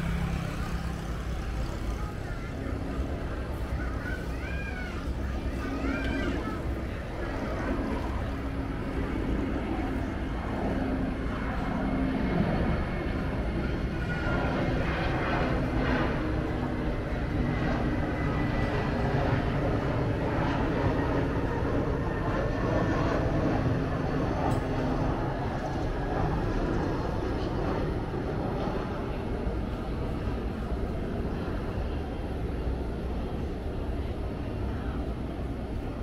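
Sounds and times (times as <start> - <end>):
airliner engines rumbling: 0.0 - 36.0.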